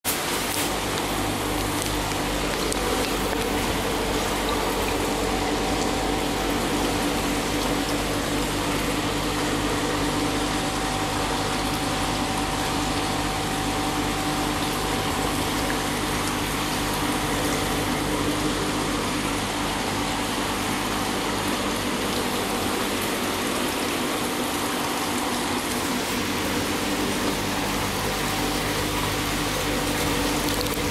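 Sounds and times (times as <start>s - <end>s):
fish tank pump water rushing: 0.0s - 30.9s.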